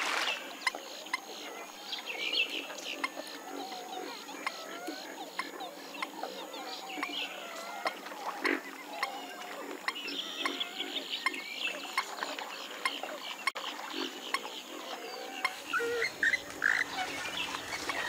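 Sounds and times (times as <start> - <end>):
swamphens calling: 0.0 - 18.0.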